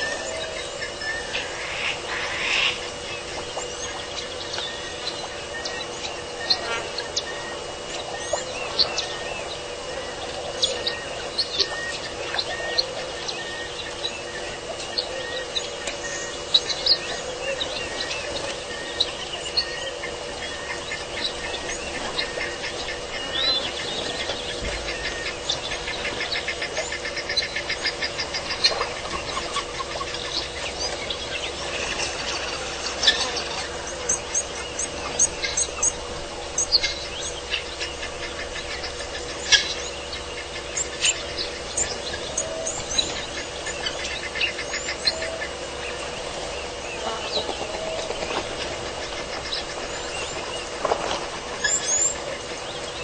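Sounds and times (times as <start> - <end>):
birds chirping: 0.0 - 53.0
faint steady hum: 0.0 - 53.0.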